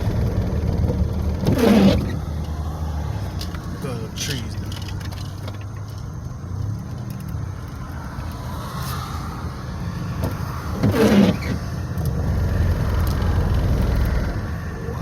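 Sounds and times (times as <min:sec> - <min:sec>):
car cabin engine and road rumble: 0:00.0 - 0:15.0.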